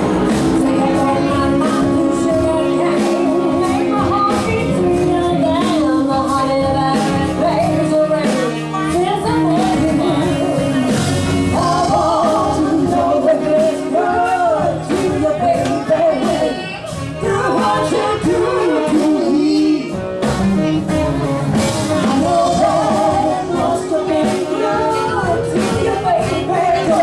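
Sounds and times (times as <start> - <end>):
drums beat: 0.0 - 27.0
live band playing rock: 0.0 - 27.0
person singing: 0.0 - 27.0.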